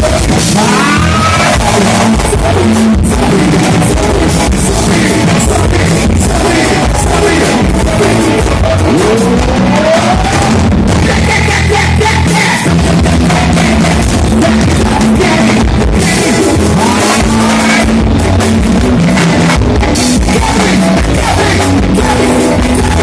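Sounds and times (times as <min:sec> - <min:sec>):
loud rock music over car stereo: 0:00.0 - 0:23.0.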